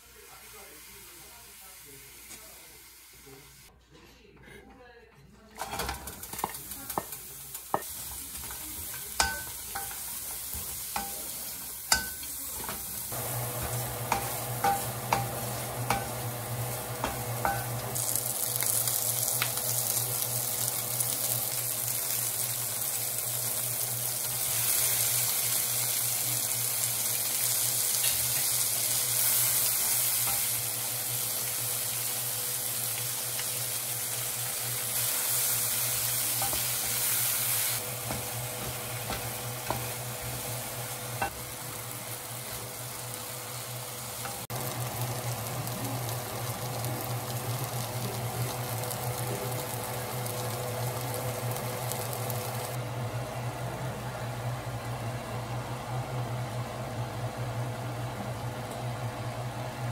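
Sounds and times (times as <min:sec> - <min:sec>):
oil sizzling in pan: 0:00.0 - 0:03.7, 0:05.7 - 0:53.0.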